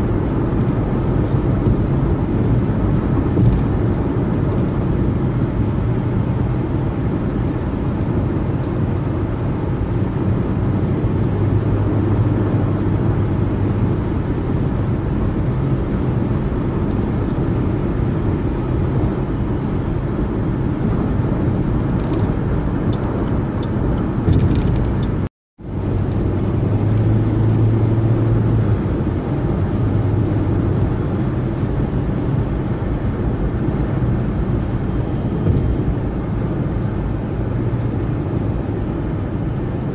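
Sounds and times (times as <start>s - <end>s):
car tyre and engine road noise: 0.0s - 39.9s.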